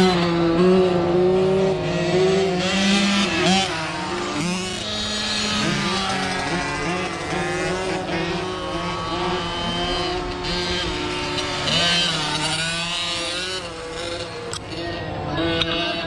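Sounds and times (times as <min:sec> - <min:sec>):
motorcycle engines revving: 0:00.0 - 0:16.0
motorcycle passing close: 0:00.0 - 0:16.0.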